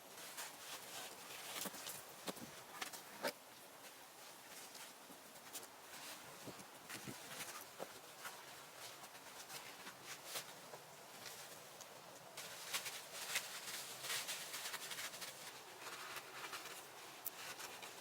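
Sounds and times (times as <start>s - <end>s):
rustling: 0.0s - 18.0s
faint clicks and crackles: 0.1s - 18.0s.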